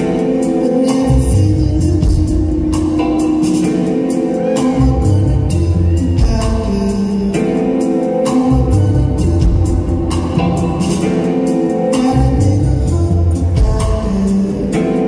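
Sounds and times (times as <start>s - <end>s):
bass guitar: 0.0s - 15.0s
electric guitar: 0.0s - 15.0s
keyboard: 0.0s - 15.0s
person singing: 0.0s - 15.0s
steady drum beat: 0.0s - 15.0s.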